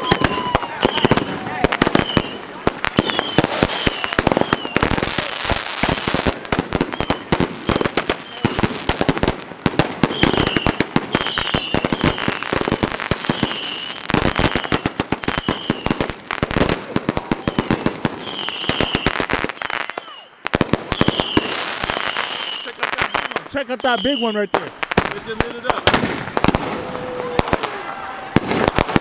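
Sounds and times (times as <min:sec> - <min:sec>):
fireworks bangs and crackles: 0:00.0 - 0:29.0
fireworks whistling: 0:00.0 - 0:29.0.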